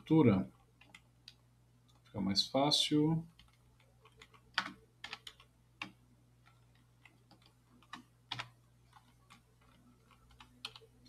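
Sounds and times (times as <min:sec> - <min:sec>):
computer keyboard keystrokes: 0:00.6 - 0:02.1, 0:03.3 - 0:11.0.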